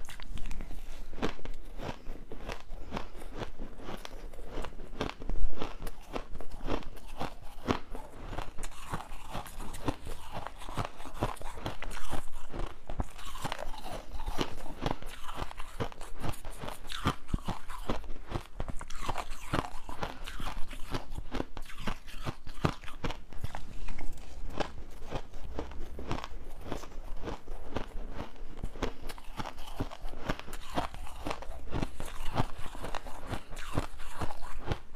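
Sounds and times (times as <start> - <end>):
ice being chewed: 0.0 - 34.9.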